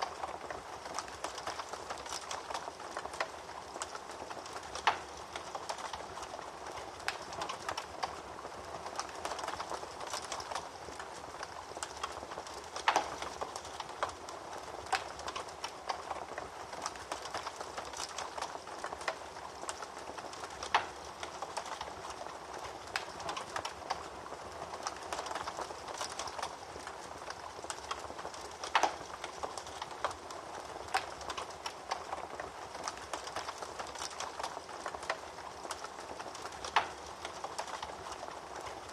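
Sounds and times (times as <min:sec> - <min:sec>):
fire popping: 0:00.0 - 0:38.9
wood fire hissing: 0:00.0 - 0:38.9.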